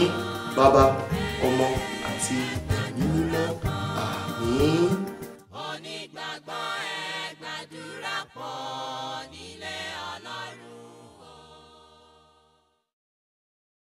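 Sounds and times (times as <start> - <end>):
choir singing: 0.0 - 12.9.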